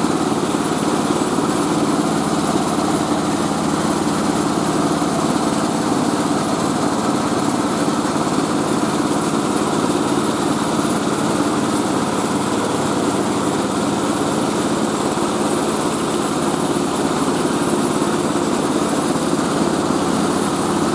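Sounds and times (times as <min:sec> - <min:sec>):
rice-milling machine running: 0:00.0 - 0:20.9.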